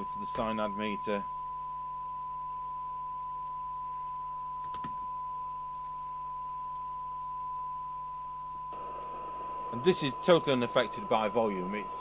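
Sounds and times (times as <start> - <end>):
faint low hum: 0.0 - 12.0
radio test tone: 0.0 - 12.0.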